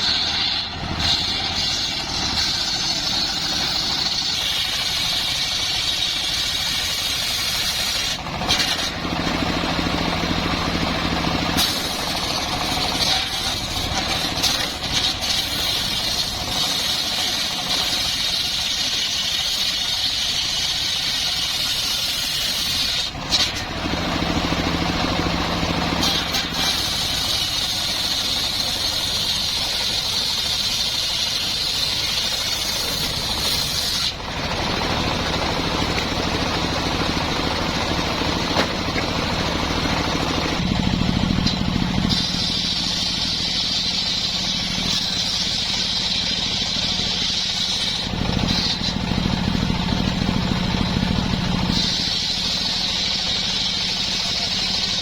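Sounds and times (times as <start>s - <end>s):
engine-driven saw whining: 0.0s - 55.0s.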